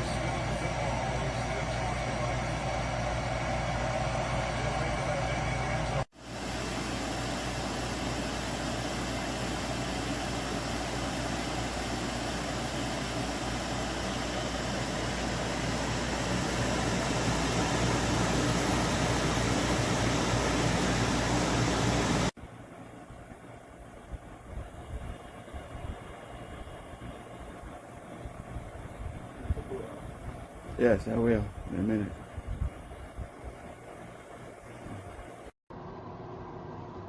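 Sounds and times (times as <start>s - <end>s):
air conditioner fan rushing air: 0.0s - 37.0s.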